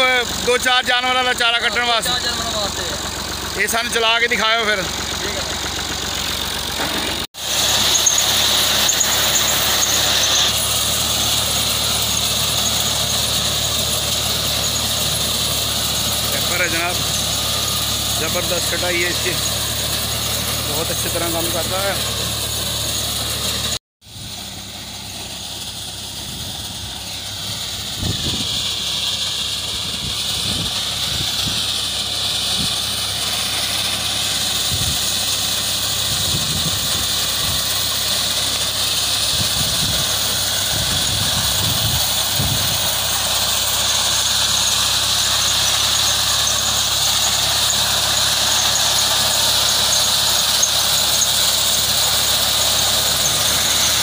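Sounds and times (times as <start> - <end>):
high-pitched mechanical whir: 0.0 - 54.0
tractor diesel engine under load: 0.0 - 54.0.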